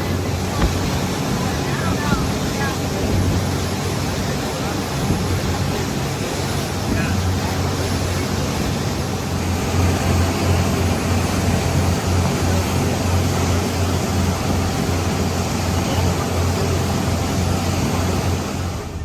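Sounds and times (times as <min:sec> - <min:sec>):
boat engine droning: 0:00.0 - 0:19.0
wind and water rushing: 0:00.0 - 0:19.0.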